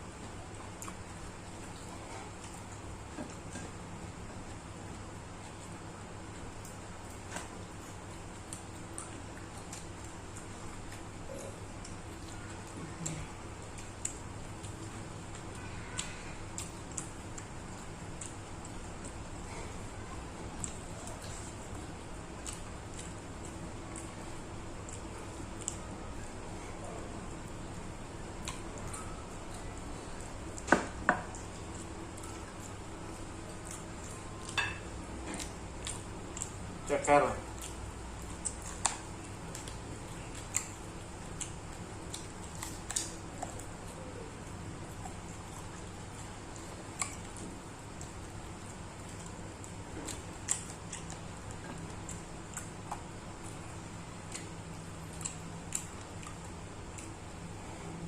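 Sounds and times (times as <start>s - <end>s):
steady low hum: 0.0s - 58.0s
chewing clicks and smacks: 0.5s - 26.5s, 27.4s - 57.5s.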